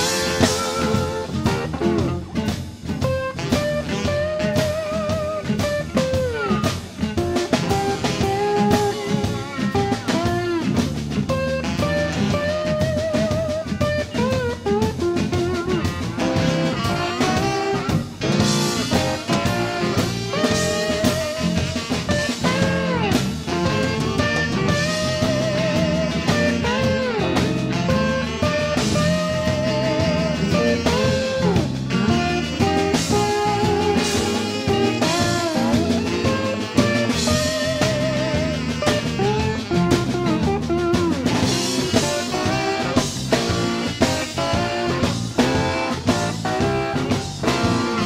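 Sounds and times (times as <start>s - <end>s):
blues band playing: 0.0s - 48.0s
lead guitar with bent notes: 0.0s - 48.0s.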